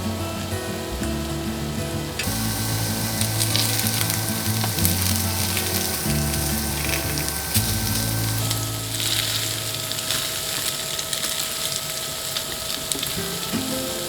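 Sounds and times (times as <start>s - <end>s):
patties sizzling in a pan: 2.2s - 14.0s.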